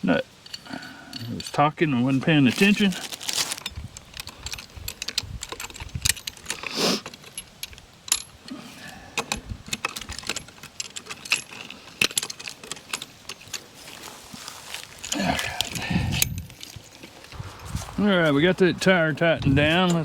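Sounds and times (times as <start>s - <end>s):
lug nuts and wrench clinking: 0.4s - 17.3s.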